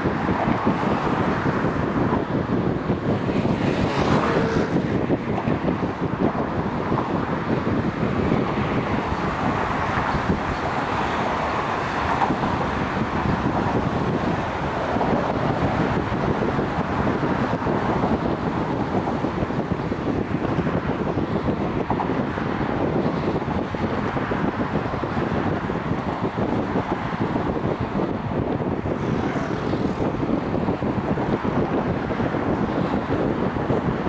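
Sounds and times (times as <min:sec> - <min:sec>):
road traffic passing: 0:00.0 - 0:34.0
wind noise on microphone: 0:00.0 - 0:34.0.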